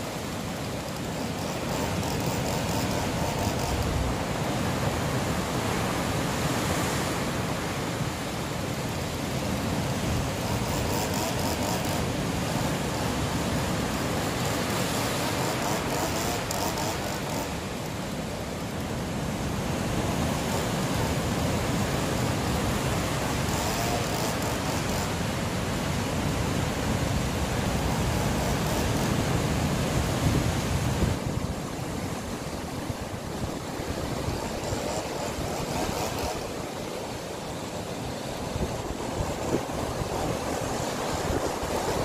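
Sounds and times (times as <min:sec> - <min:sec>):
sea surf breaking over boulders: 0:00.0 - 0:42.0.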